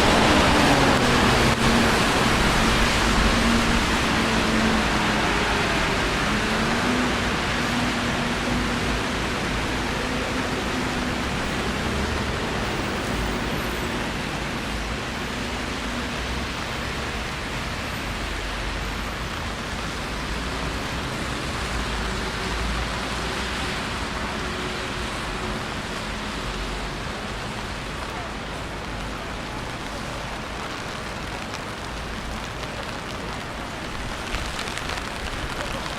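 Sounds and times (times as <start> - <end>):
rain falling on street: 0.0 - 35.9.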